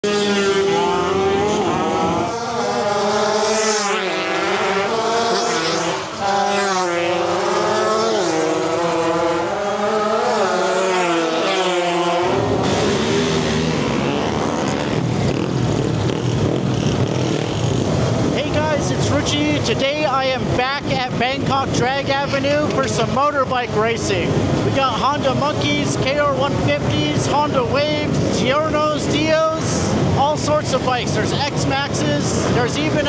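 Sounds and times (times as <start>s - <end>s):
crowd of motorbikes revving: 0.0s - 33.0s
motorbike engines revving: 0.0s - 33.0s.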